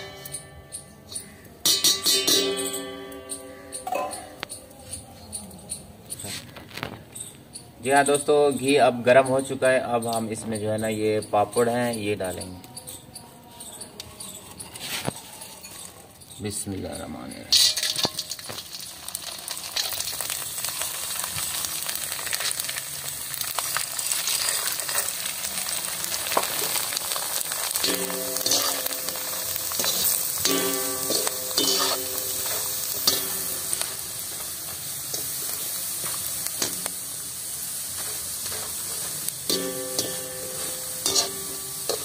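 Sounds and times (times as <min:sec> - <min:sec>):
frying sizzle: 0:00.0 - 0:04.6, 0:05.6 - 0:12.6, 0:13.6 - 0:42.0.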